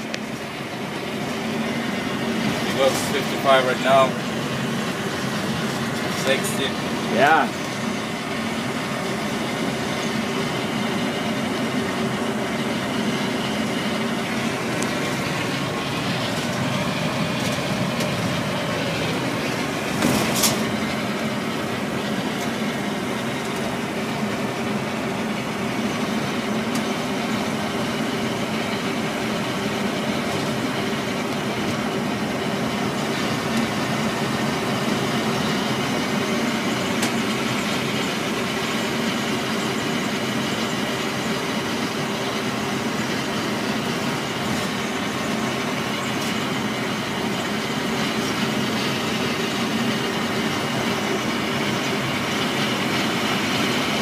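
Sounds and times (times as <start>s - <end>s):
coach diesel engine cruising: 0.0s - 54.0s
road and wind noise: 0.0s - 54.0s.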